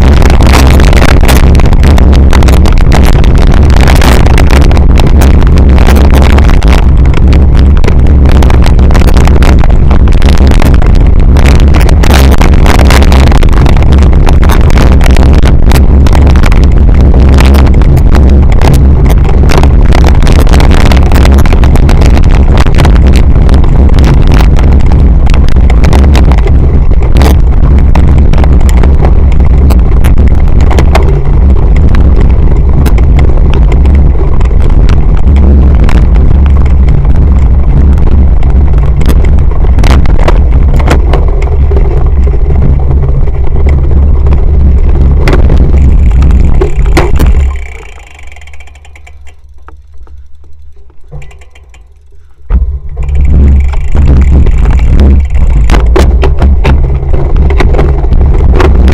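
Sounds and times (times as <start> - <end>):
bike knocks and rattles: 0.0 - 58.9
wind rumble on microphone: 0.0 - 58.9.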